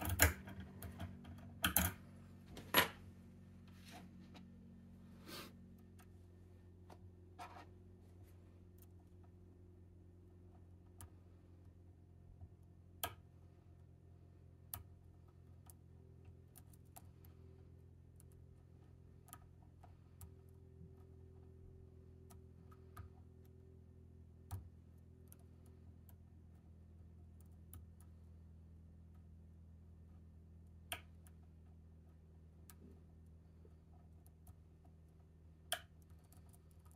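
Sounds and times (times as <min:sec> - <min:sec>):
low steady hum: 0:00.0 - 0:36.9.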